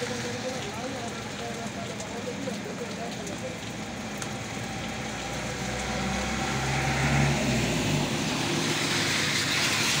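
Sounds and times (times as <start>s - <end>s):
tyres hissing on wet road: 0.0s - 10.0s.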